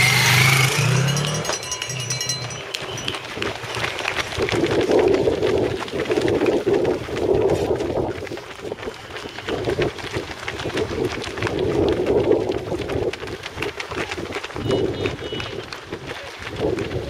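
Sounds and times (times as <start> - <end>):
runners' footsteps on asphalt: 0.7 - 17.0.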